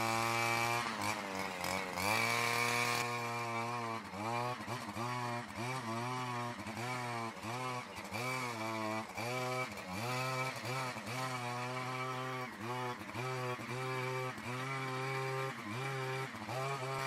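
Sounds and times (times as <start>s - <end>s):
brush cutter engine running: 0.0s - 17.0s
cutter head churning dry material: 0.0s - 17.0s.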